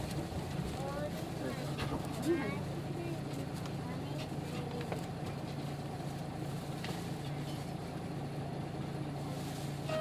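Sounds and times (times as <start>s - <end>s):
bus diesel engine running: 0.0s - 10.0s
road and cabin noise: 0.0s - 10.0s.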